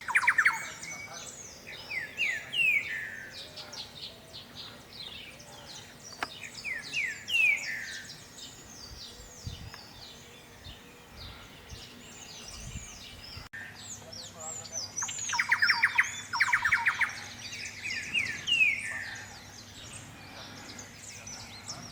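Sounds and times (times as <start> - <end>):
high bird chirps and calls: 0.0 - 21.9
wren singing whistled notes: 0.0 - 21.9.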